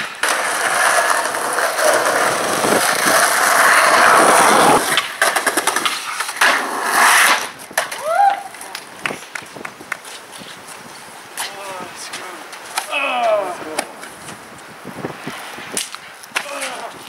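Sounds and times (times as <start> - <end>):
skateboard clacking on ground: 0.0 - 14.4, 15.7 - 17.0
skateboard wheels rolling: 0.0 - 17.0.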